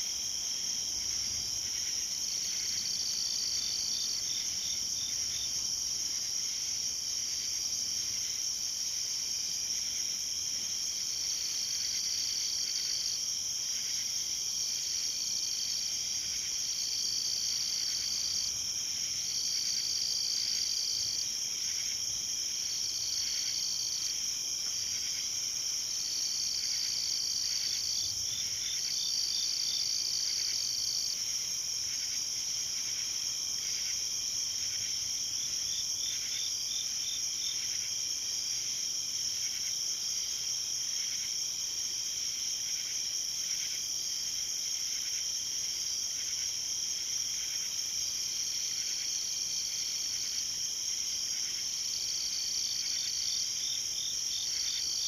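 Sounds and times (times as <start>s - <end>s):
cricket trills: 0.0s - 55.0s
insects droning: 0.0s - 55.0s.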